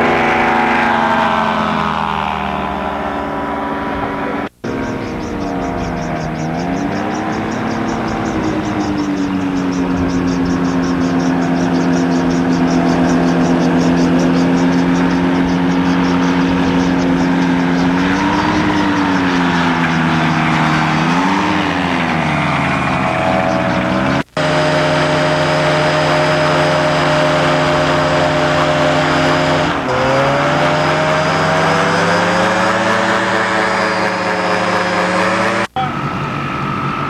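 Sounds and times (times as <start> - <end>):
aircraft engine with buzzing propeller: 0.0 - 37.0.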